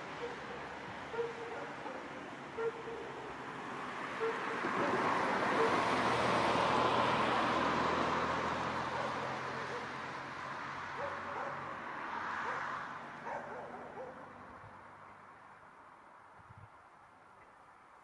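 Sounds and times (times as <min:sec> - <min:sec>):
car passing: 0:00.0 - 0:16.2.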